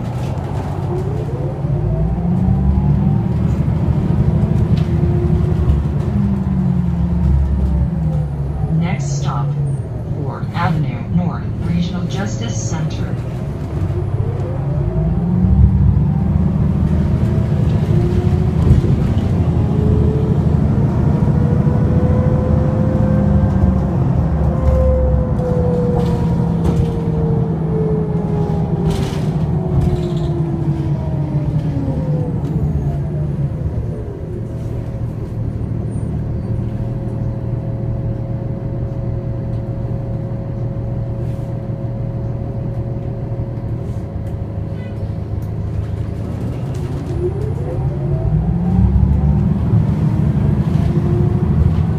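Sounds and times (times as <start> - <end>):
bus engine rumble: 0.0 - 51.9.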